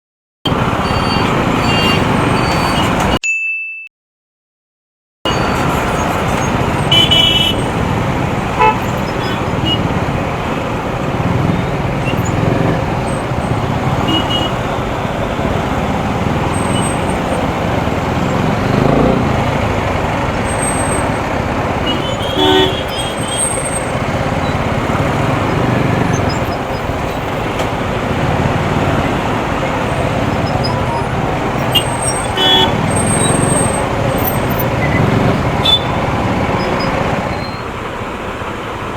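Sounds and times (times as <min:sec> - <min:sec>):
vehicle horn toots: 0:00.5 - 0:03.2, 0:06.7 - 0:07.9, 0:08.5 - 0:19.8, 0:20.4 - 0:26.6, 0:27.4 - 0:37.6
wind and road noise: 0:00.5 - 0:03.2, 0:05.3 - 0:38.9
motorcycle engine: 0:05.3 - 0:38.9.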